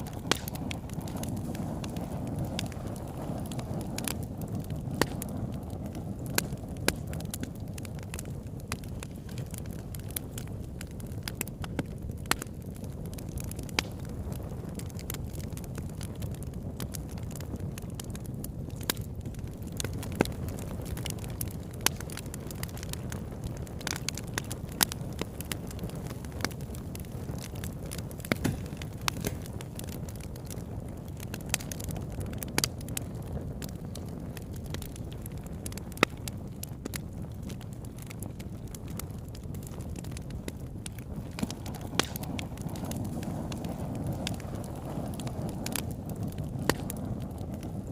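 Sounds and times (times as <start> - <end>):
burning wood crackling and popping: 0.0 - 47.9
low rumble of flames: 0.0 - 47.9.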